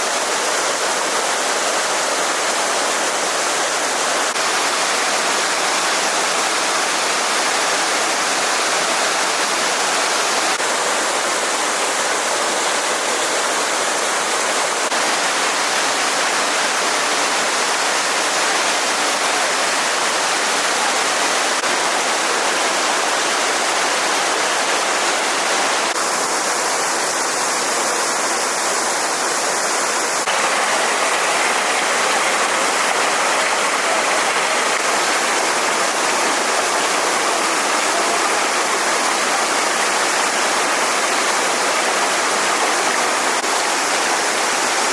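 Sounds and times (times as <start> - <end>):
flowing stream rushing: 0.0 - 44.9.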